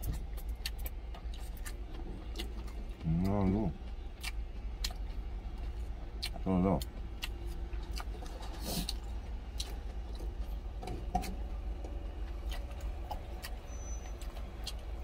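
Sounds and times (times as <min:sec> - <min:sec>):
chewing: 0:00.0 - 0:15.0
steady low hum: 0:00.0 - 0:15.0.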